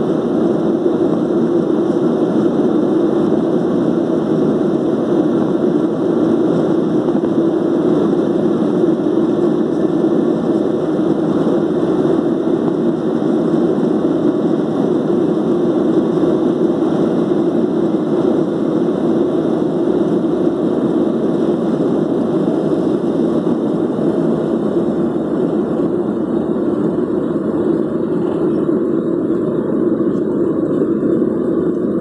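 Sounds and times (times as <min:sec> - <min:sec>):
jet engines at takeoff in cabin: 0:00.0 - 0:32.0.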